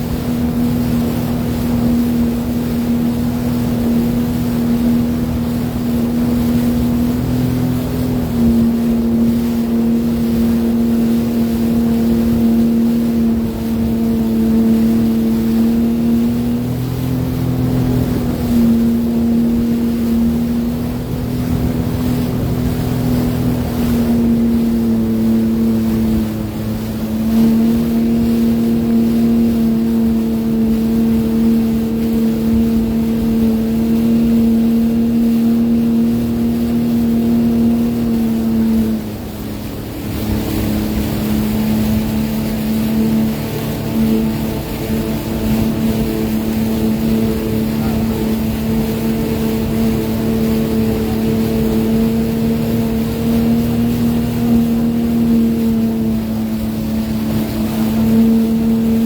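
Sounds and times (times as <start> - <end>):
personal watercraft engine running: 0.0 - 59.0.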